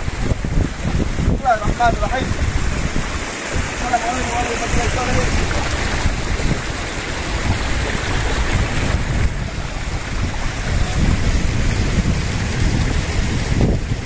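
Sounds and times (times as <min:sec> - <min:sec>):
rocky stream rushing: 0:00.0 - 0:14.0
wind buffeting microphone: 0:00.0 - 0:14.0.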